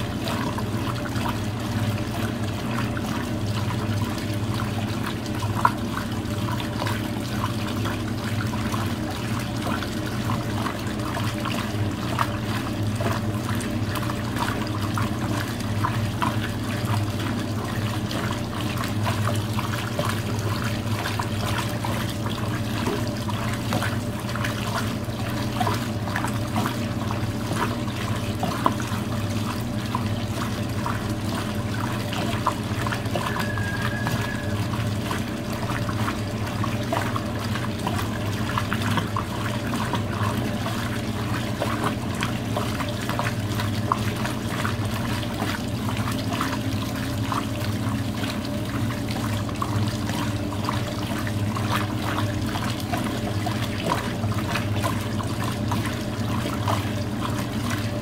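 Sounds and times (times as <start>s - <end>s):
water pouring into washing machine: 0.0s - 58.0s.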